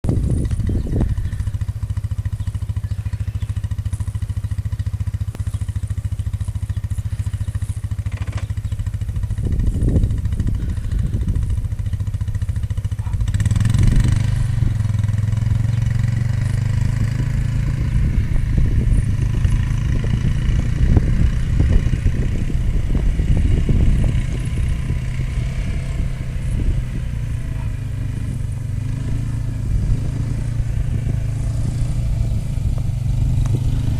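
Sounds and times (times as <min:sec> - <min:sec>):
quad engine running: 0:00.0 - 0:33.9.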